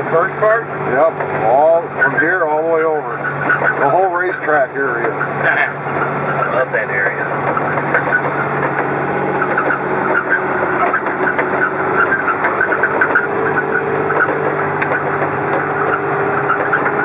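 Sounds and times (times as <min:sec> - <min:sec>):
vehicle engine running: 0:00.0 - 0:17.0
faint irregular ticking: 0:00.1 - 0:17.0.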